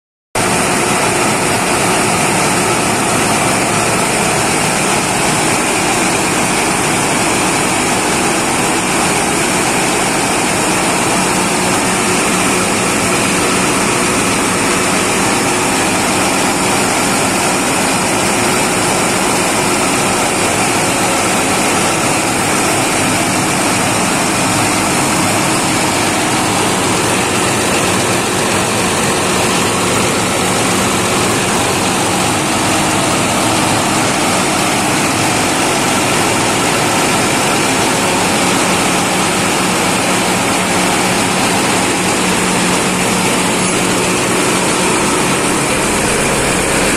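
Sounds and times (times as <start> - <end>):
diesel generator engine running: 0.4 - 46.9.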